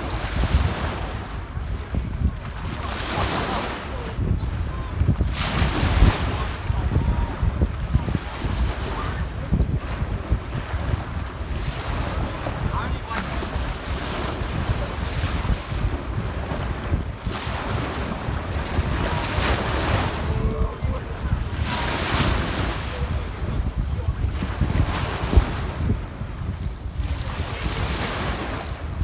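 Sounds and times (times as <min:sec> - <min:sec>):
small waves washing on beach: 0:00.0 - 0:29.0
wind buffeting microphone: 0:00.0 - 0:29.0.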